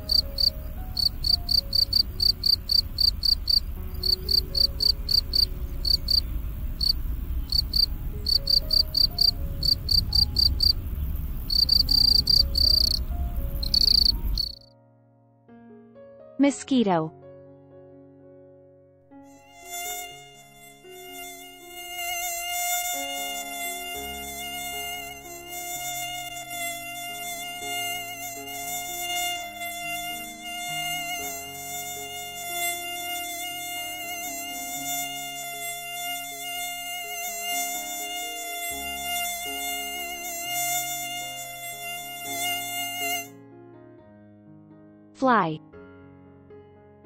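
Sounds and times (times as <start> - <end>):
mosquito whining in flight: 0.0 - 14.7, 19.3 - 43.3.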